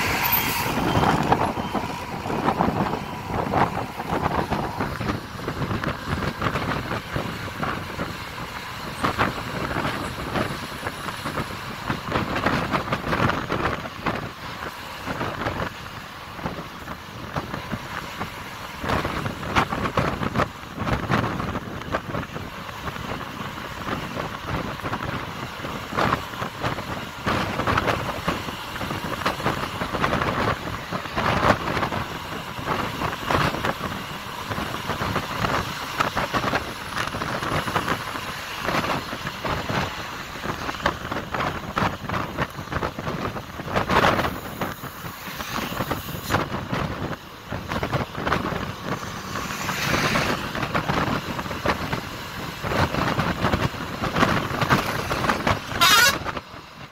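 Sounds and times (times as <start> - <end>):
bus body rattling: 0.0 - 56.9
bus engine and road roar: 0.0 - 56.9.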